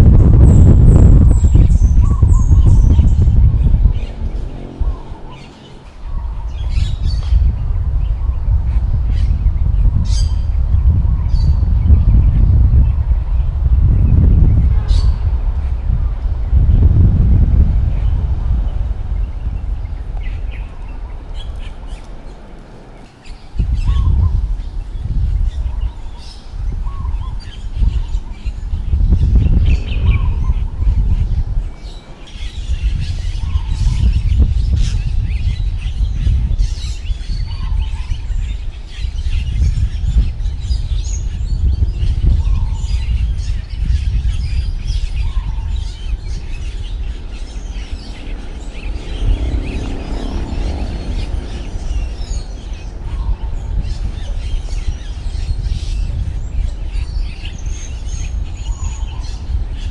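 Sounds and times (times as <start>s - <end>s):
birds chirping: 0.0s - 59.9s
strong wind gusting: 0.0s - 59.9s
wind buffeting microphone: 0.0s - 59.9s.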